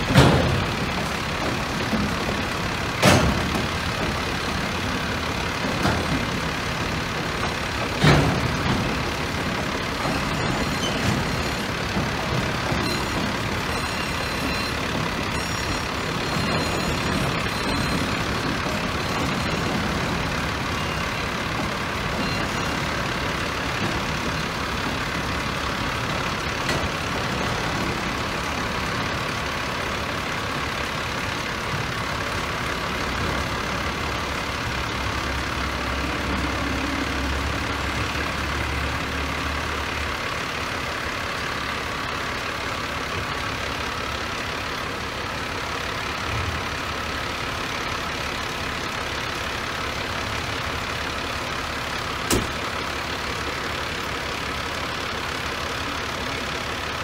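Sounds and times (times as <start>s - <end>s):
freight car wheels rumbling and rattling: 0.0s - 57.0s
low engine hum: 0.0s - 57.0s.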